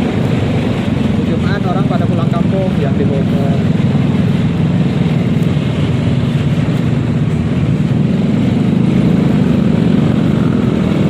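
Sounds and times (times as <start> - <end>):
road noise: 0.0 - 11.0
scooter engine: 0.0 - 11.0.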